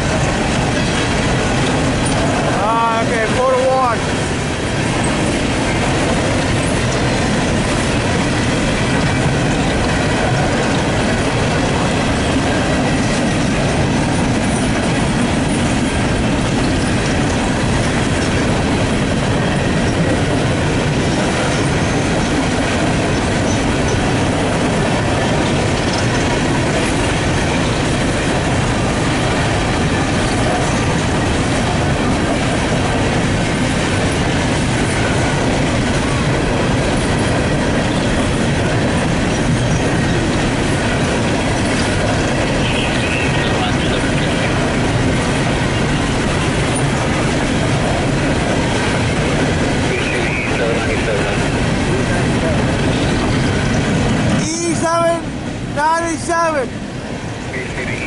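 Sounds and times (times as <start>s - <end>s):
train wheels rumbling and rattling: 0.0s - 58.0s.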